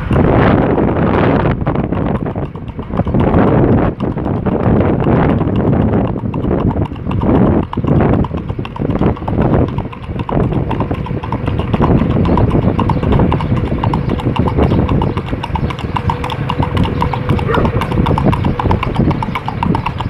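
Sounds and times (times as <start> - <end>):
hooves clip-clopping on asphalt: 0.0 - 20.0.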